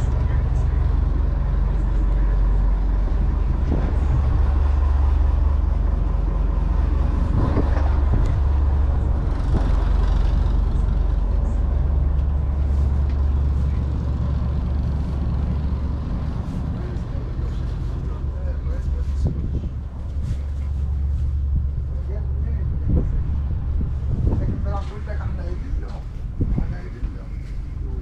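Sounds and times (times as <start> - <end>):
boat engines droning: 0.0 - 28.0.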